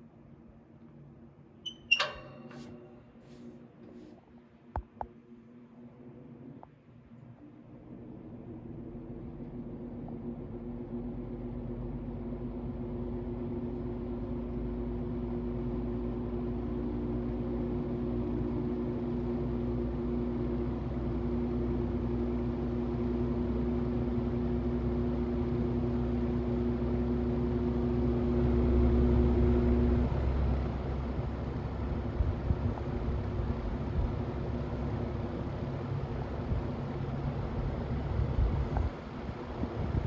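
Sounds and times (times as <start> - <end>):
box fan motor hum: 7.5 - 40.0.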